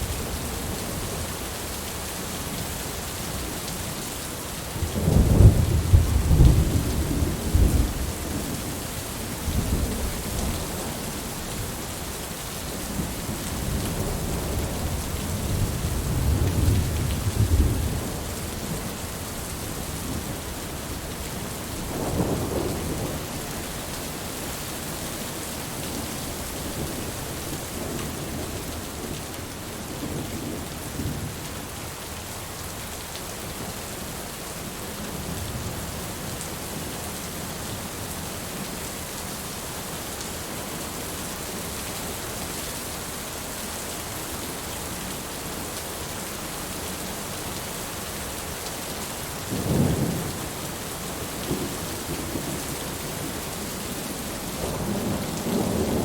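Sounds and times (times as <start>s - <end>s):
heavy rain hissing: 0.0s - 38.7s, 40.8s - 56.0s.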